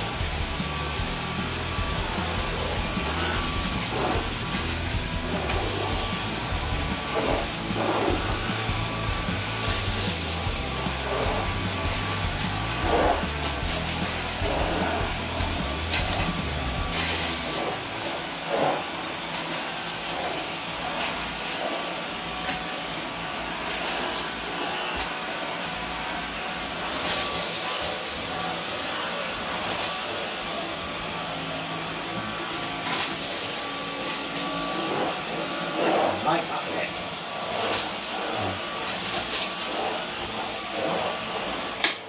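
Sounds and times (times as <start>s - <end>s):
vacuum cleaner on carpet: 0.0s - 42.0s.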